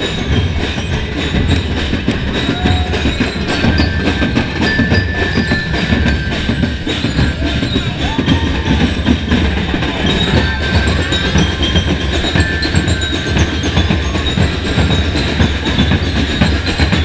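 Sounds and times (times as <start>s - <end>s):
drum band playing fast beat: 0.0s - 17.0s.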